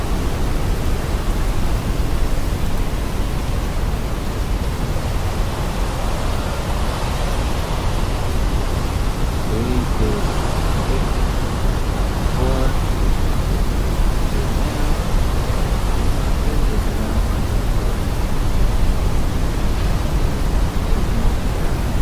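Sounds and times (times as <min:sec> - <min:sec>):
hurricane wind blowing: 0:00.0 - 0:22.0.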